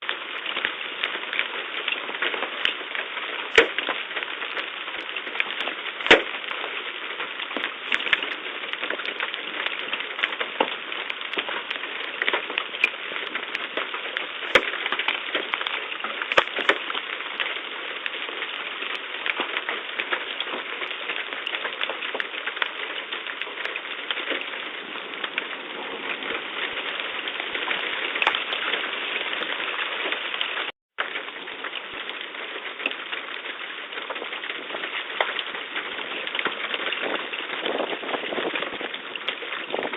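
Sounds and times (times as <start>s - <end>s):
hailstones striking: 0.0s - 39.9s
heavy rain on hard surfaces: 0.0s - 39.9s.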